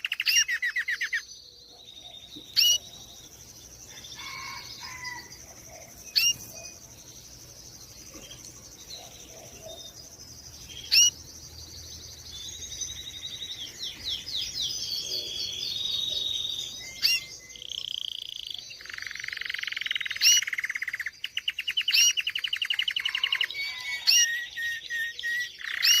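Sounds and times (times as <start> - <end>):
canary singing trills: 0.0 - 26.0.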